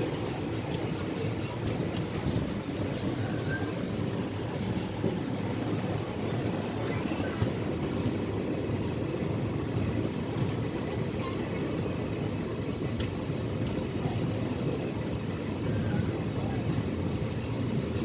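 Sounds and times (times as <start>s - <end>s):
moving train rumble: 0.0s - 18.0s.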